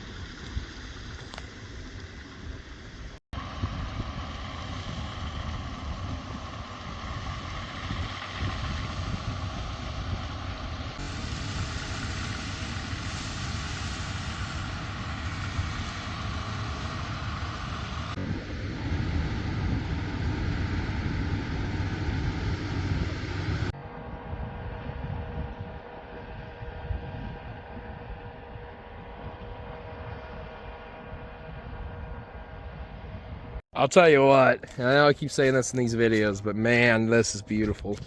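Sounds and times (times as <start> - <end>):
vehicle engine rumble: 0.0 - 38.0
wind noise: 0.0 - 38.0.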